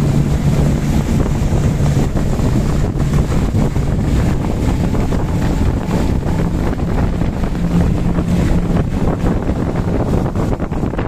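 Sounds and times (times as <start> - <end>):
hull rushing through water: 0.0 - 11.0
outboard motors droning: 0.0 - 11.0
wind buffeting microphone: 0.0 - 11.0.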